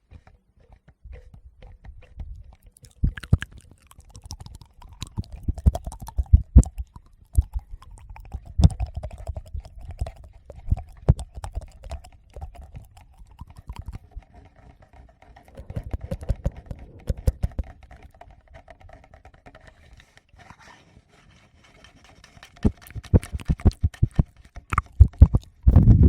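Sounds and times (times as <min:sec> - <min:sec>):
fingertips tapping on microphones: 0:00.6 - 0:14.0, 0:15.5 - 0:19.6, 0:22.4 - 0:26.0.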